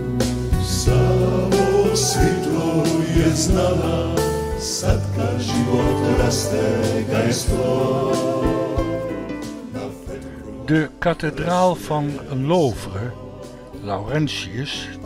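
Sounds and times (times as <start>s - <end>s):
music with singing voices: 0.0s - 15.0s.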